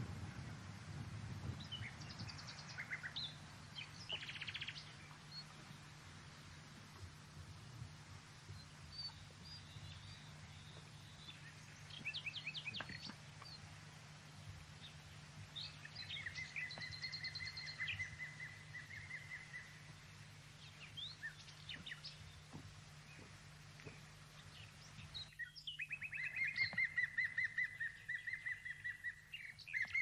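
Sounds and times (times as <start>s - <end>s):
steady low hum: 0.0s - 30.0s
songbirds chirping and trilling: 0.3s - 30.0s.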